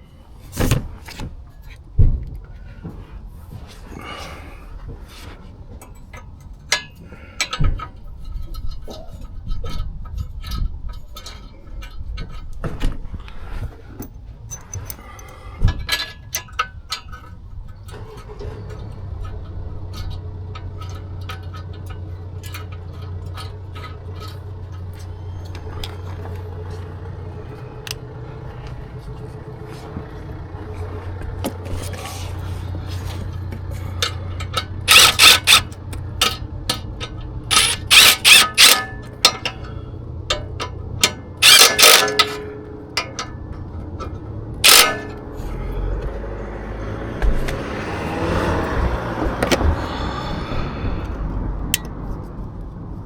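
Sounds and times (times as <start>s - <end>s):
tools and metal parts clattering: 0.3s - 46.2s.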